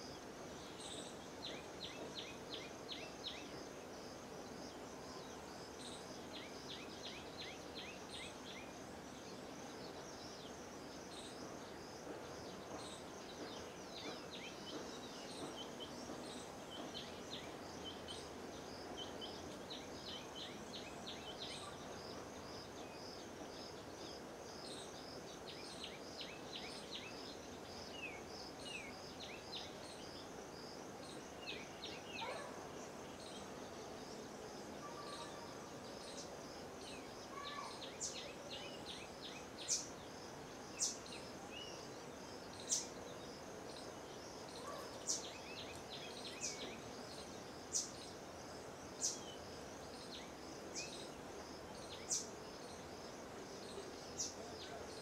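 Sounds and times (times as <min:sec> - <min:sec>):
background hiss: 0:00.0 - 0:55.0
high insect chirps: 0:00.0 - 0:55.0.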